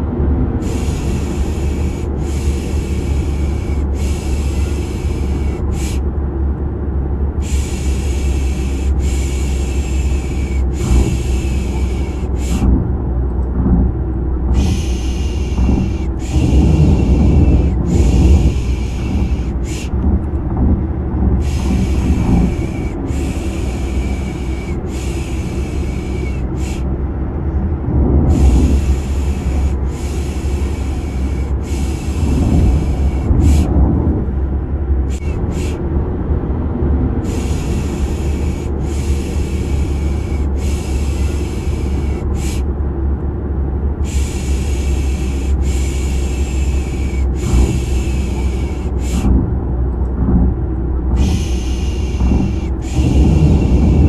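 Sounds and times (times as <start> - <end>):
car engine rumble inside car: 0.0 - 54.0.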